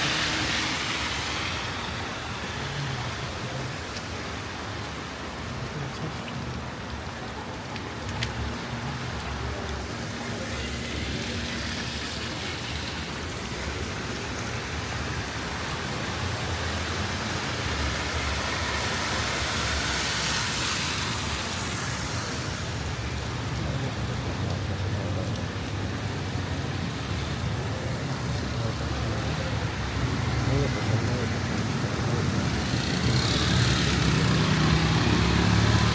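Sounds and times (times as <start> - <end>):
rain hissing: 0.0 - 35.9
tyres swishing through water: 0.0 - 35.9
wet-road traffic: 0.0 - 35.9.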